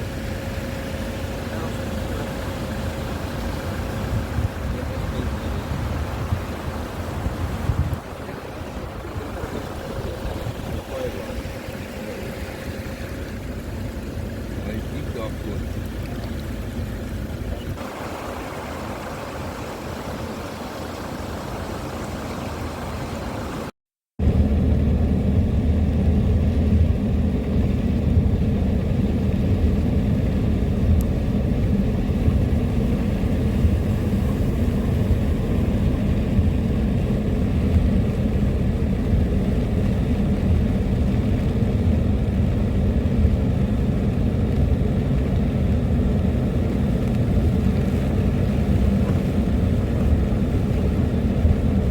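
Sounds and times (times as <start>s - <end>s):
vehicle engine and road rumble: 0.0s - 51.9s.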